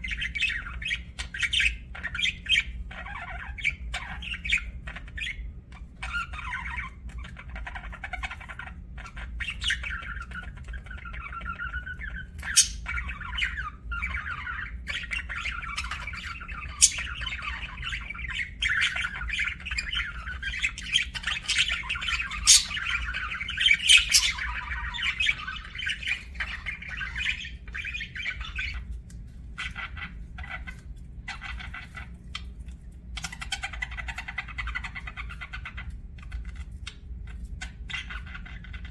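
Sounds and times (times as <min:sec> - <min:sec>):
budgerigars squawking: 0:00.0 - 0:28.8, 0:29.6 - 0:32.4, 0:33.2 - 0:37.0, 0:37.6 - 0:38.9
budgerigars chattering and warbling: 0:00.0 - 0:29.0, 0:29.6 - 0:38.9.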